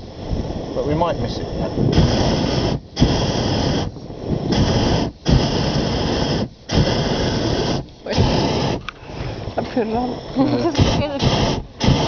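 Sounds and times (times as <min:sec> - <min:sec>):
propane burner blasts: 0:00.0 - 0:12.0.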